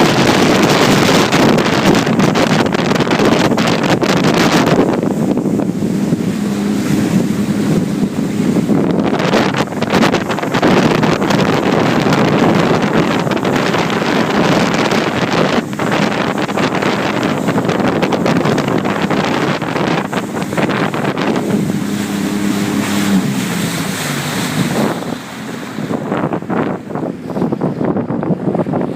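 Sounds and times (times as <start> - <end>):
jet ski engine: 0.0 - 28.9
rushing water: 0.0 - 28.9
wind buffeting microphone: 0.0 - 28.9.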